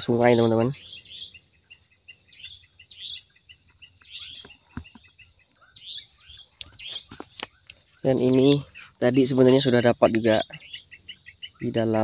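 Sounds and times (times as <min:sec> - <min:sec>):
high chirps of small animals: 0:00.0 - 0:12.0.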